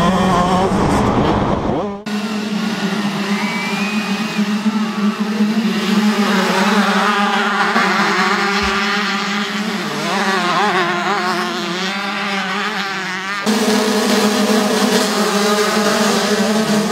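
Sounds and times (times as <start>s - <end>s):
motocross bikes revving: 1.6s - 16.9s.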